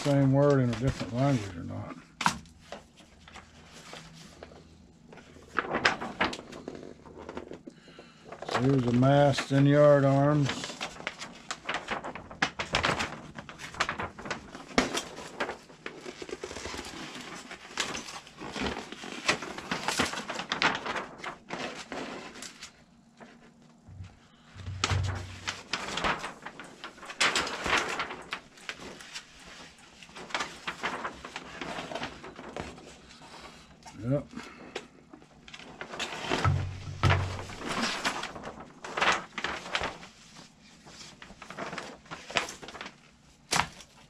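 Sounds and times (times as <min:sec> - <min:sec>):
paper crackling and rustling: 0:00.0 - 0:44.0.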